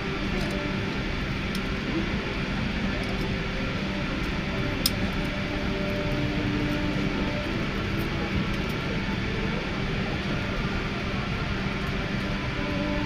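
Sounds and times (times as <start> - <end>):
airliner cabin hum: 0.0 - 13.0.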